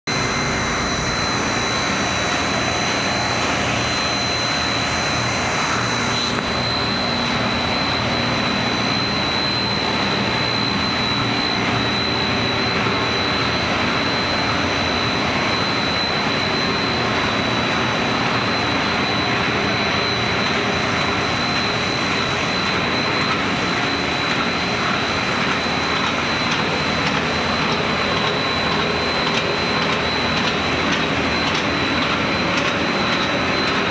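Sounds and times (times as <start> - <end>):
constant high whine: 0.1 - 33.9
production line machinery running: 0.1 - 33.9.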